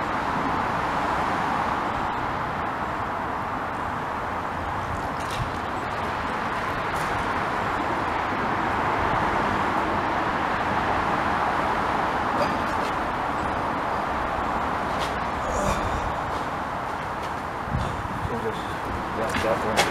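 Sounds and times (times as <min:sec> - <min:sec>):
road traffic hiss: 0:00.0 - 0:19.9.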